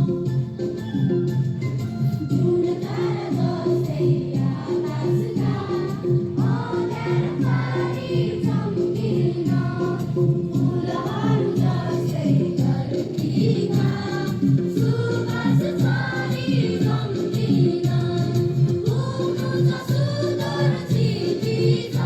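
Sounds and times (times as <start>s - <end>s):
musical backing: 0.0s - 22.0s
group singing in chorus: 2.3s - 22.0s.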